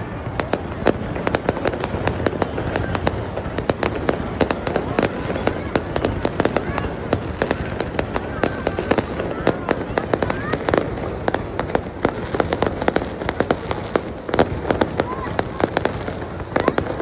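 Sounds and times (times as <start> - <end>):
continuous rumble: 0.0 - 17.0
fireworks bangs and crackles: 0.0 - 17.0.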